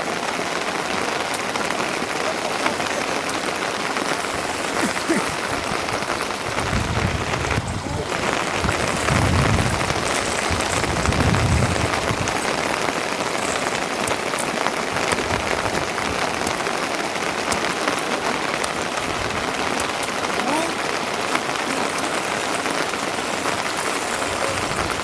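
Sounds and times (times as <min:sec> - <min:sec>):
rain pattering: 0:00.0 - 0:25.0.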